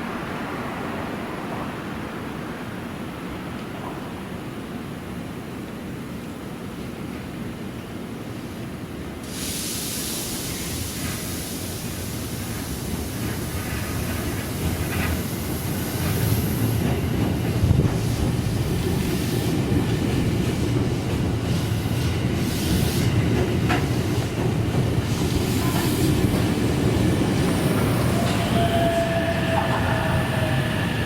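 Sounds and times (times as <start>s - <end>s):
train rumbling at low speed: 0.0s - 31.0s.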